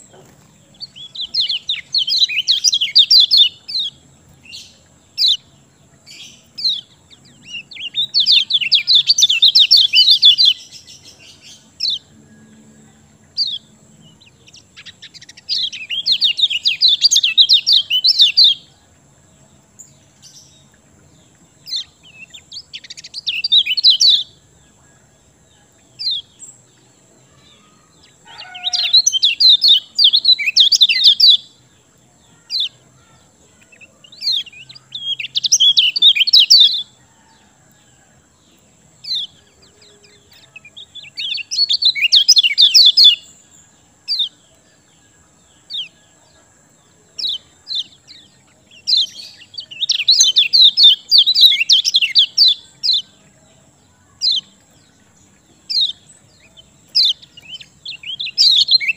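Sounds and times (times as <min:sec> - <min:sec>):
bird chirps: 0:00.0 - 0:58.9
bird twittering song: 0:00.0 - 0:58.9.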